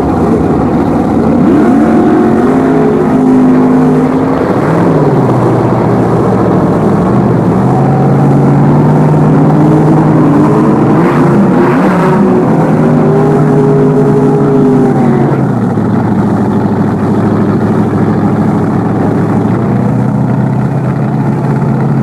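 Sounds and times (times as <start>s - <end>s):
loud drag car engine: 0.0s - 22.0s.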